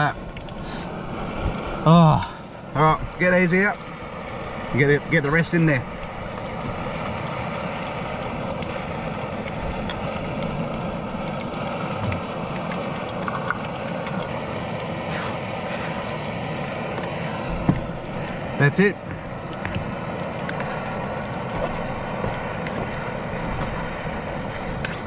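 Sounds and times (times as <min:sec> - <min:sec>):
food deep-frying in oil: 0:00.0 - 0:25.0
gas stove burner hissing: 0:00.0 - 0:25.0.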